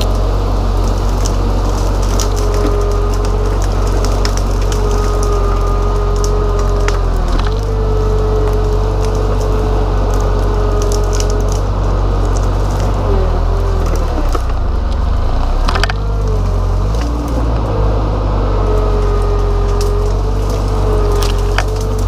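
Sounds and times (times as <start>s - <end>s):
branches snapping: 0.0s - 22.0s
diesel engine whining under load: 0.0s - 22.0s.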